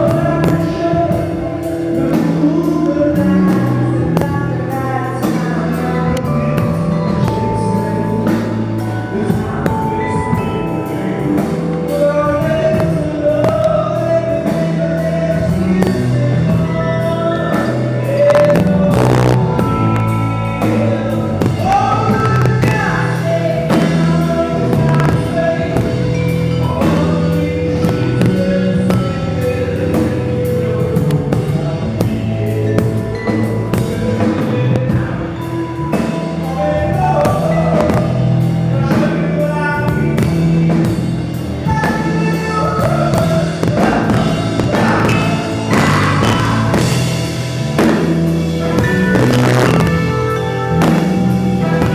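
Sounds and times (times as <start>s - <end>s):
live band playing: 0.0s - 51.9s
person singing: 0.0s - 51.9s.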